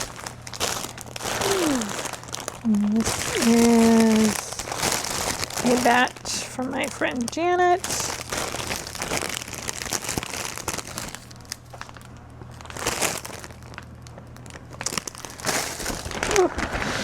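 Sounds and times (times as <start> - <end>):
bags crinkling and rustling: 0.0 - 17.0.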